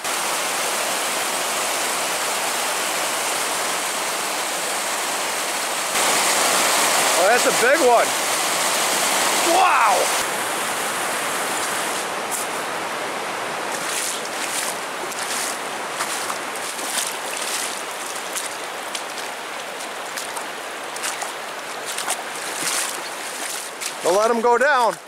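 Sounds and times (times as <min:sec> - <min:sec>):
creek water rushing over gravel: 0:00.0 - 0:25.0
water splashes: 0:00.0 - 0:25.0.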